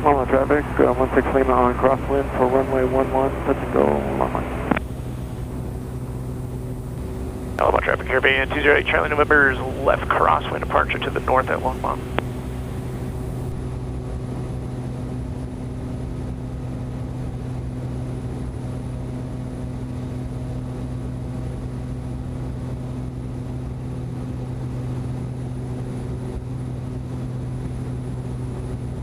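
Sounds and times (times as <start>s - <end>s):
turboprop engine drone: 0.0s - 29.0s.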